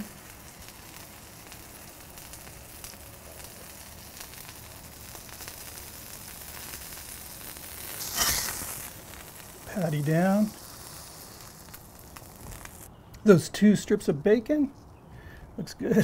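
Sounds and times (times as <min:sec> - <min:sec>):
burger patty sizzling on griddle: 0:00.0 - 0:12.9.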